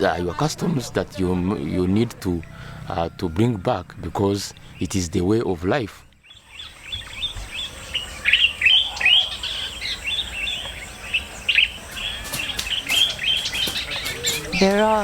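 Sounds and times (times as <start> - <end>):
birds chirping: 0.6 - 15.0.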